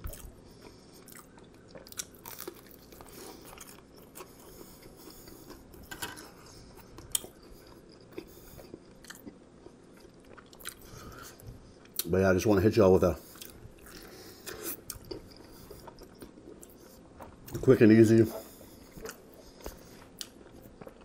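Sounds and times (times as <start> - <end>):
chewing a sandwich: 0.0 - 12.1, 13.2 - 21.0.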